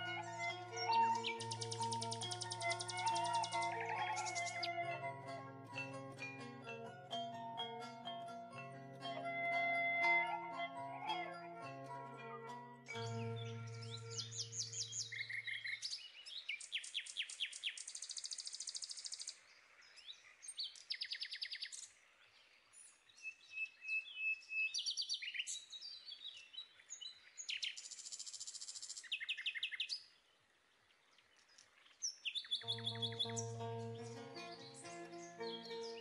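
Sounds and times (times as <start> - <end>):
songbirds trilling and chirping: 0.0 - 36.0.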